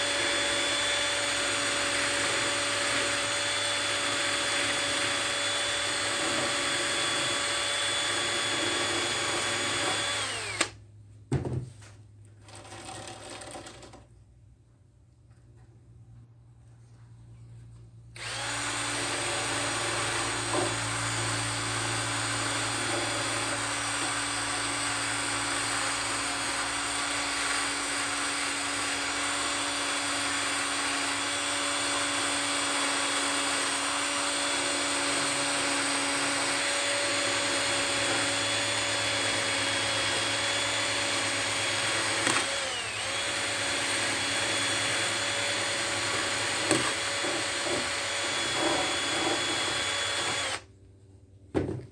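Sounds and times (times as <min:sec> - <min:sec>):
cordless drill with wire brush: 0:00.0 - 0:10.8, 0:18.2 - 0:50.7.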